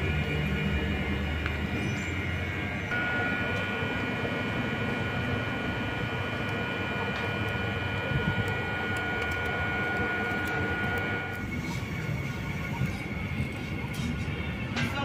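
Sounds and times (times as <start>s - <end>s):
electric train whine: 0.0s - 15.0s
train low rumble: 0.0s - 15.0s.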